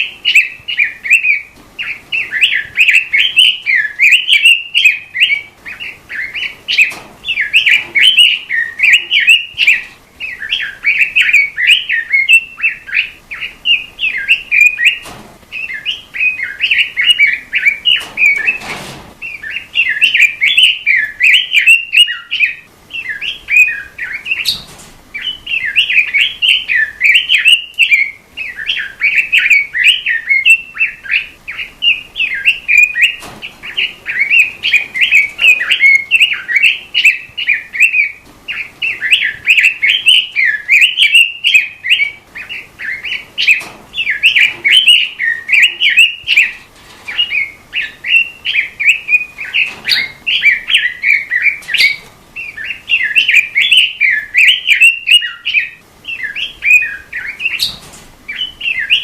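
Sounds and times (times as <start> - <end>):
robin singing warbling song: 0.0 - 59.0.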